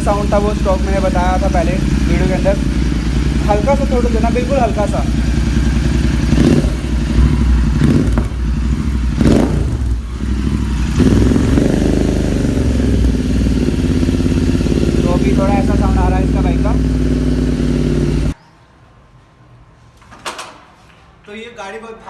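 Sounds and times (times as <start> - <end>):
motorcycle engine revving: 0.0 - 18.4.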